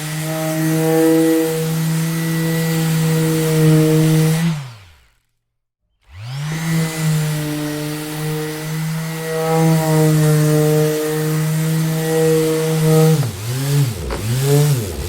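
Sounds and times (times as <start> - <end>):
orbital sander motor: 0.0 - 5.3, 6.0 - 15.0.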